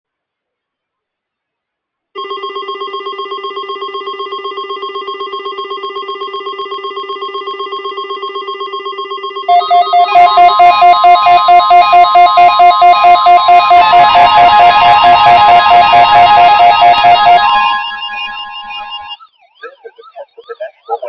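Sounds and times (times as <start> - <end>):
loud beeping alarm: 2.2 - 21.0
rapidly pulsing electronic beep: 2.2 - 21.0.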